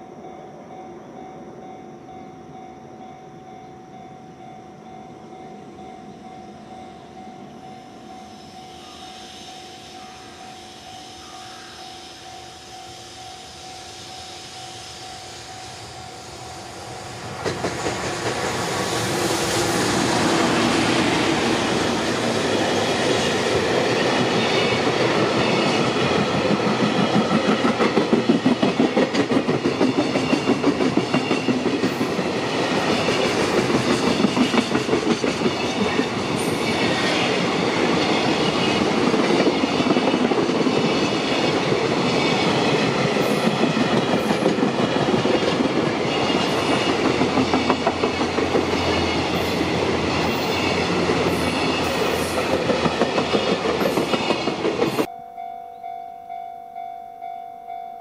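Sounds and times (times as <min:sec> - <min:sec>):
train wheels clacking on rails: 0:07.7 - 0:55.1.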